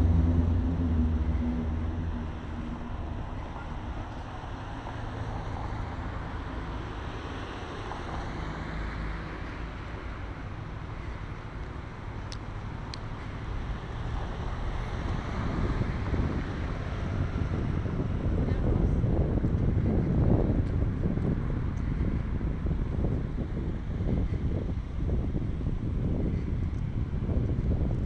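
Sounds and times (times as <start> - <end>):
road traffic passing: 0.0 - 28.0
wind rumble on microphone: 0.0 - 28.0.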